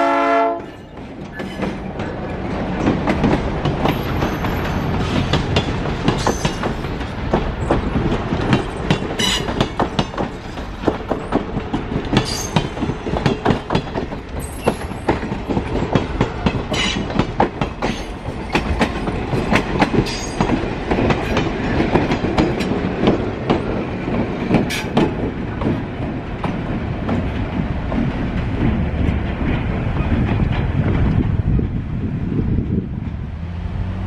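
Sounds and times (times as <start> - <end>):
diesel locomotive engine rumbling: 0.0 - 34.0
train wheels clicking over rail joints: 0.6 - 31.9.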